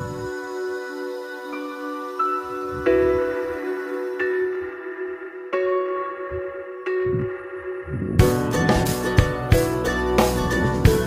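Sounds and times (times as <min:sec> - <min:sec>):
soft ambient music ringing notes: 0:00.0 - 0:11.0.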